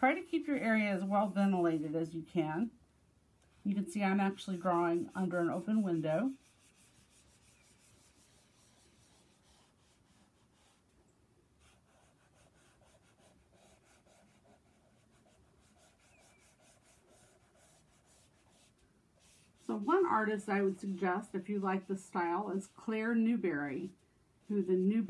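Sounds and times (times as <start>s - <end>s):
hand rubbing on paper: 0.0s - 2.2s, 3.5s - 10.9s, 11.6s - 25.0s.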